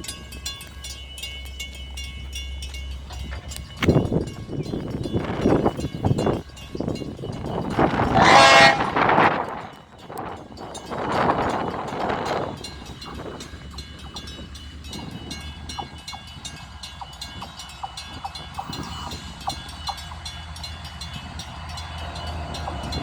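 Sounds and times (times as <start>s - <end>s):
diesel locomotive drone: 0.0s - 23.0s
train wheels clicking on rails: 0.0s - 23.0s.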